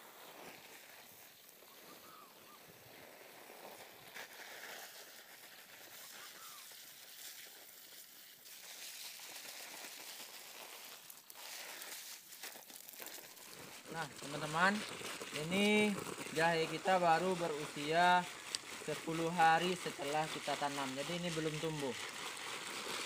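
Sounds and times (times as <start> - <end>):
dry fronds crackling underfoot: 0.0 - 23.0
garden hose spraying water: 0.0 - 23.0.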